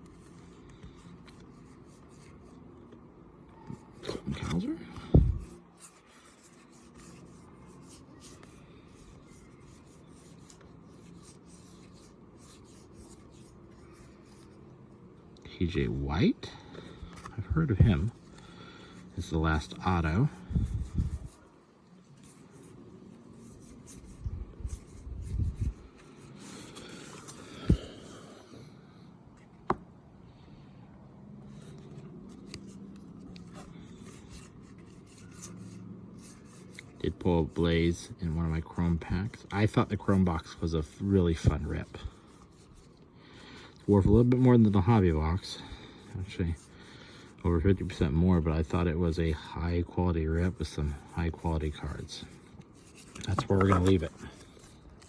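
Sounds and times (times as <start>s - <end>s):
cards rustling: 0.0s - 14.6s, 16.6s - 28.6s, 31.4s - 49.4s, 50.2s - 55.0s.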